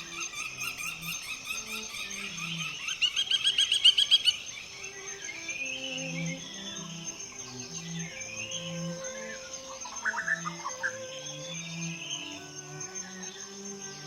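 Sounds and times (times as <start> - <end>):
bird rapid trill: 0.0 - 14.0
songbirds singing and chirping: 0.0 - 14.0
thin steady high tone: 0.0 - 14.0.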